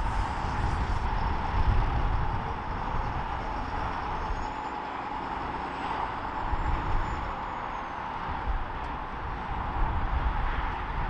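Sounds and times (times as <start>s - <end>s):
bus engine passing: 0.0s - 11.0s
road traffic noise: 0.0s - 11.0s.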